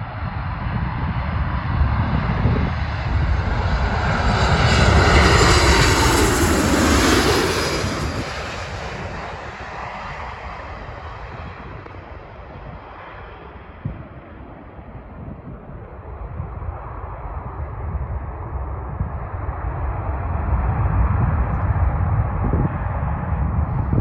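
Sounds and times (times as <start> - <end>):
aircraft engines passing by: 0.0 - 24.0
wind rumbling on microphone: 0.0 - 24.0.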